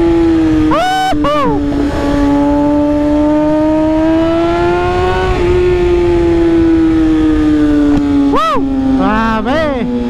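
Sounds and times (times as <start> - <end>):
motorcycle engine at speed: 0.0 - 10.0
wind rush on microphone: 0.0 - 10.0.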